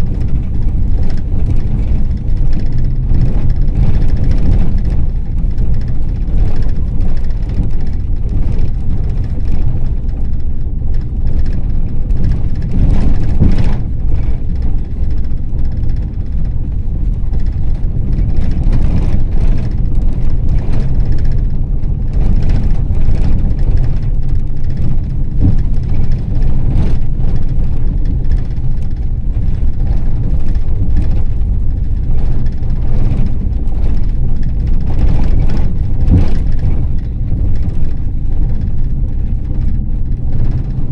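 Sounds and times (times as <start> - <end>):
engine and road rumble: 0.0 - 40.9
vehicle jolt: 0.0 - 40.9
vehicle knocks and rattles: 0.0 - 40.9.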